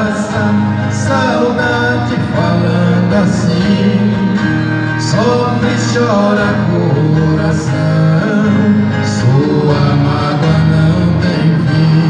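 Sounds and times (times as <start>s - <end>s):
acoustic guitars playing: 0.0s - 12.0s
man singing: 0.0s - 12.0s.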